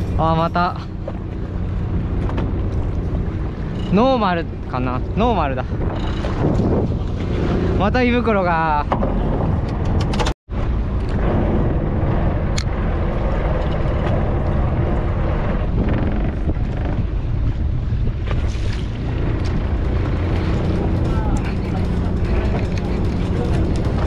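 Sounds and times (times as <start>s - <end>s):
sea noise: 0.0s - 9.6s, 10.5s - 24.0s
boat engine running: 0.0s - 24.0s
wind buffeting microphone: 0.0s - 24.0s.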